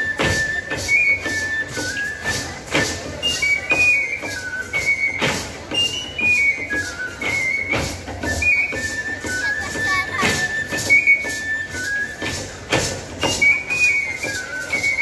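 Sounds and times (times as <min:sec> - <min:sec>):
high-pitched flute melody: 0:00.0 - 0:15.0
percussive beats: 0:00.0 - 0:15.0.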